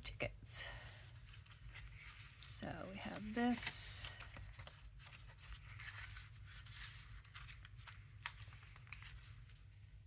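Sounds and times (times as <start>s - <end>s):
paper cards rustling: 1.1s - 9.8s.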